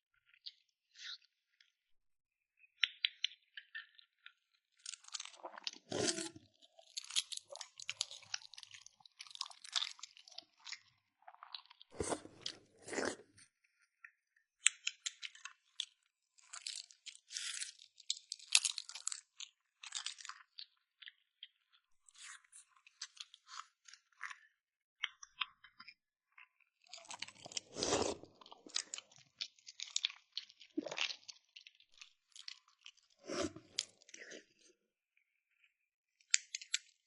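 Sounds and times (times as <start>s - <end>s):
person crunching and chewing: 3.0s - 13.4s, 14.6s - 34.7s, 36.3s - 37.0s.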